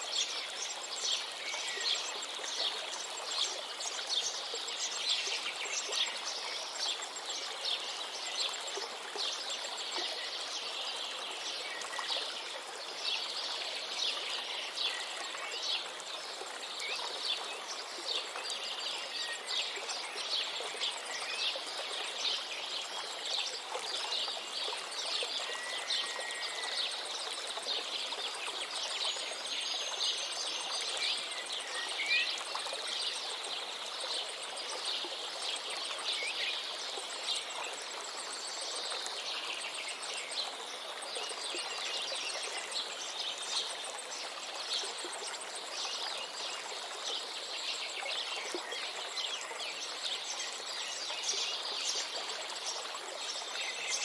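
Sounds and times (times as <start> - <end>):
river running: 0.0 - 54.0.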